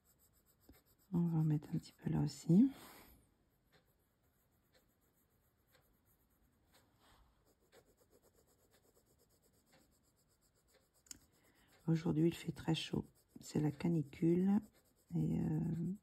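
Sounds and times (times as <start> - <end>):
pencil scratching on paper: 0.0 - 2.8, 3.5 - 16.0.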